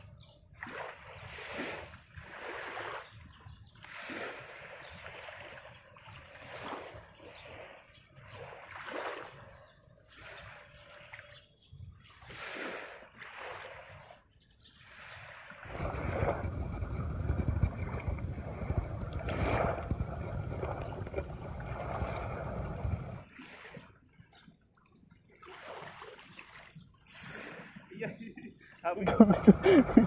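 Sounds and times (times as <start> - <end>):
small waves splashing on shore: 0.5 - 11.4, 12.0 - 24.1, 25.3 - 28.1.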